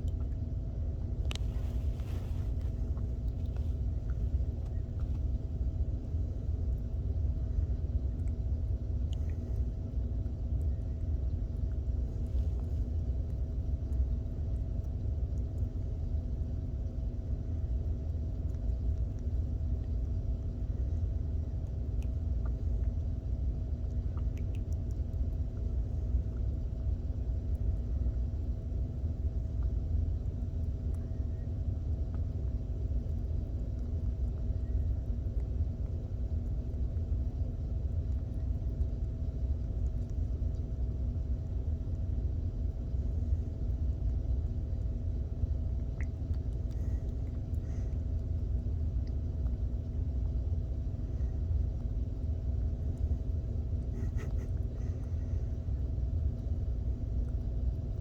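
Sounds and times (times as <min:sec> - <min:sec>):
constant hum: 0:00.0 - 0:58.0
steady low rumble: 0:00.0 - 0:58.0.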